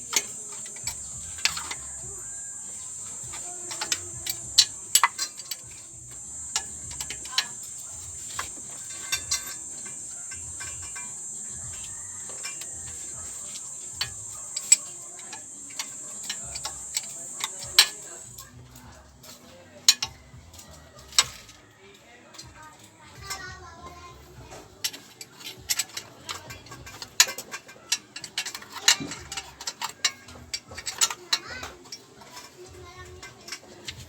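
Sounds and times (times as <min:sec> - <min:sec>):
hand tools clinking on metal: 0:00.0 - 0:34.0
steady high-pitched hiss: 0:00.0 - 0:34.0.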